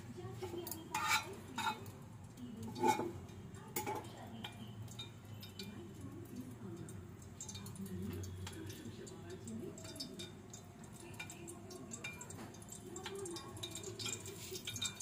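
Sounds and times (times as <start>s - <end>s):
utensils clinking against pan: 0.0s - 15.0s.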